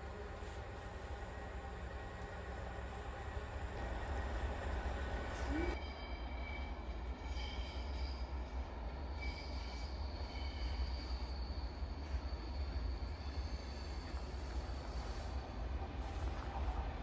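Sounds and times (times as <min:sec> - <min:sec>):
train wheels squealing: 0:00.0 - 0:17.0.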